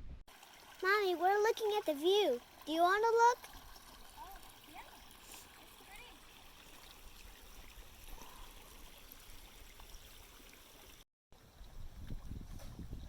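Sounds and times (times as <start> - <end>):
creek flowing: 0.3 - 11.0.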